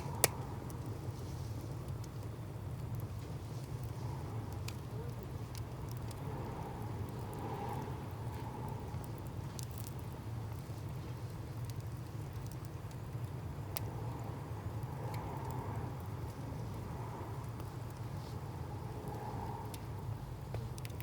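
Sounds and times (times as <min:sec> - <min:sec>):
firewood crackling and popping: 0:00.0 - 0:21.0
wood fire rumbling: 0:00.0 - 0:21.0.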